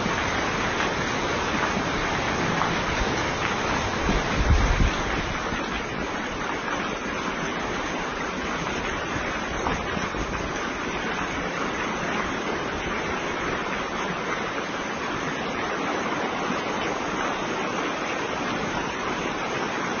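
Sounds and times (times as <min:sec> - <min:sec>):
rush of running water: 0:00.0 - 0:20.0.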